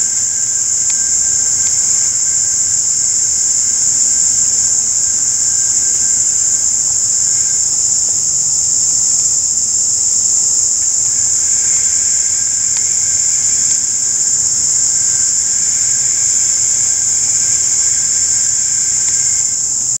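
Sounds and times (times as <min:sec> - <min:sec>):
insects shrilling: 0:00.0 - 0:20.0.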